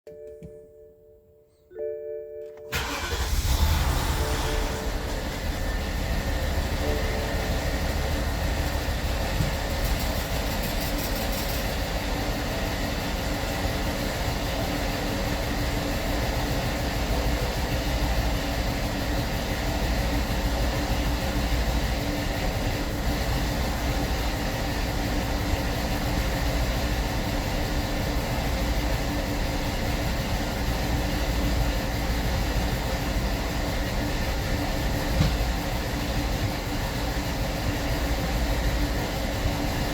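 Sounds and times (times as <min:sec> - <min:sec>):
car engine idling with misfires: 0:02.7 - 0:39.9.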